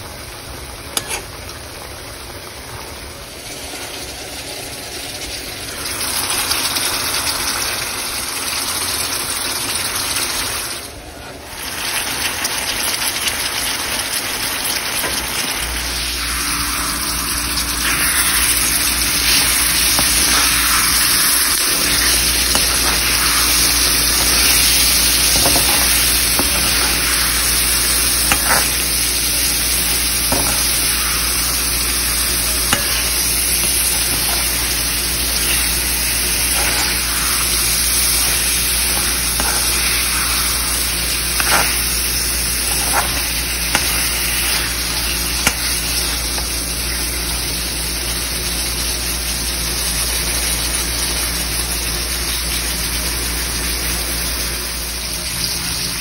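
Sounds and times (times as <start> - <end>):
gravy sizzling in a pan: 0.0 - 56.0.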